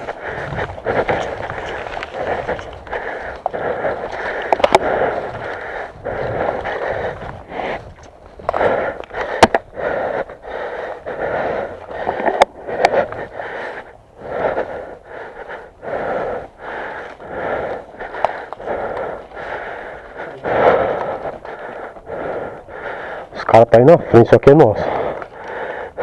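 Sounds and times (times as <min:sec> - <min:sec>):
heavy panting: 0:00.0 - 0:26.0.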